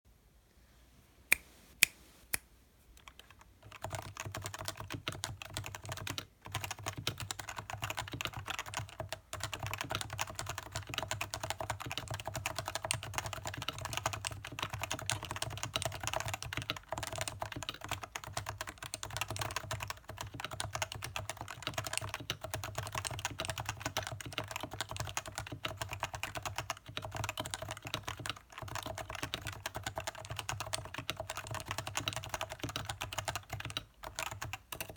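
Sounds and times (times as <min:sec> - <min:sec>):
keyboard typing: 0:03.0 - 0:34.9.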